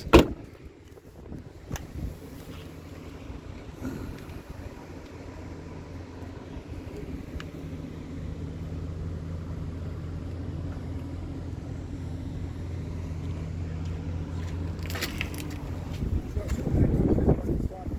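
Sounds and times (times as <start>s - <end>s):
truck engine idling: 0.0s - 17.9s.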